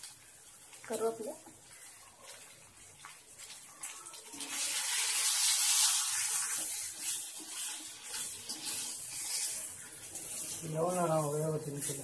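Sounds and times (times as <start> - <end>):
meat sizzling in hot oil: 0.0 - 12.0
metal spoon stirring in a pan: 0.0 - 12.0.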